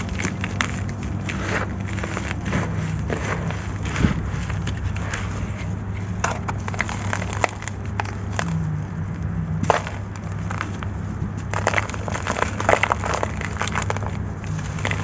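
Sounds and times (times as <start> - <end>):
sand-cement chunks crunching: 0.0 - 15.0.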